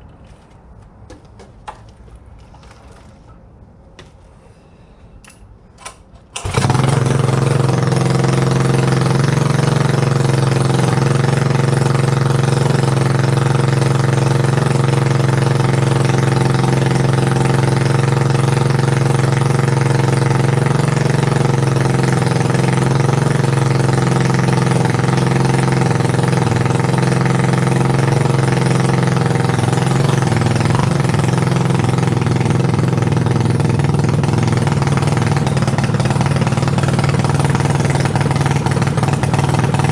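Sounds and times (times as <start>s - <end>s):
small dirt bike engine running: 6.4s - 39.9s.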